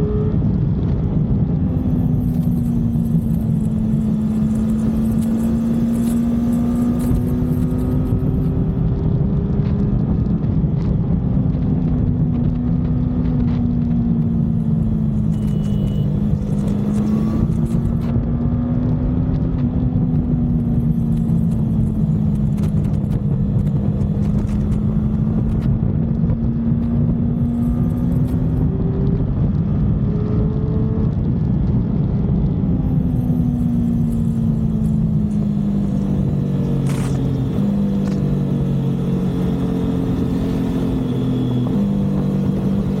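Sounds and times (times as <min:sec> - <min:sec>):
motorcycle engine cruising: 0:00.0 - 0:43.0
wind and road noise: 0:00.0 - 0:43.0.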